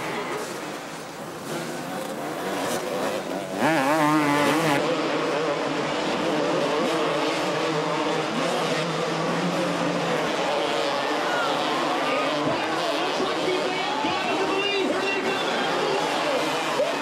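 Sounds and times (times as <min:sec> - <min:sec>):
motocross bike engines racing: 0:00.0 - 0:17.0.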